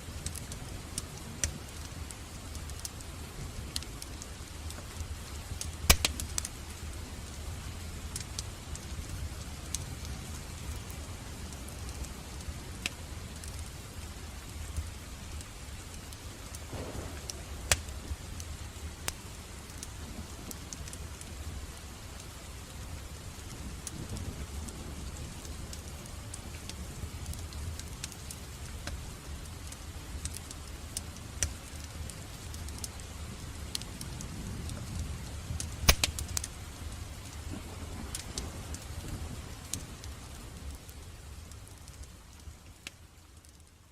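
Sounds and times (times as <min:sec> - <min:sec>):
fire crackling and popping: 0:00.0 - 0:43.9
rain: 0:00.0 - 0:43.9.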